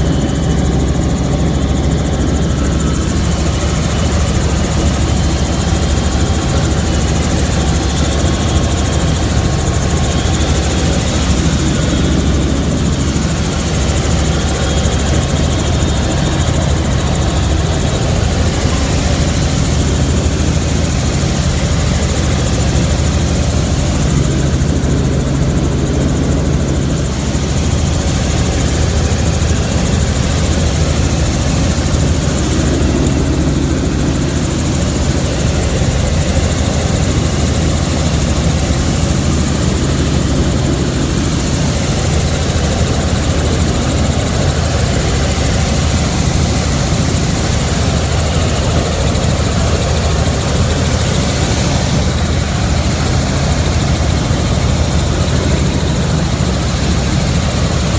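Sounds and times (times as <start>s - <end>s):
helicopter engine and rotor: 0.0s - 57.9s.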